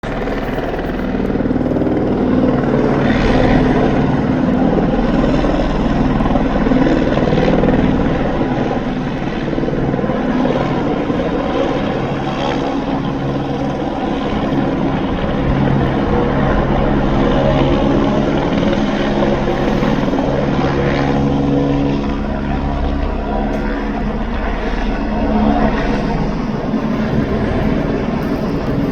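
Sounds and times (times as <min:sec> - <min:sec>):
helicopter engine and rotor hum: 0:00.0 - 0:28.9.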